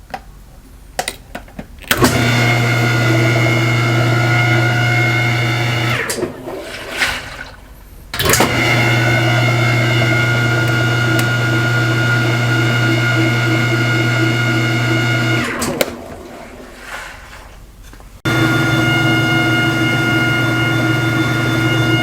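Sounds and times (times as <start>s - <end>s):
washing machine whining and humming: 1.9s - 22.0s.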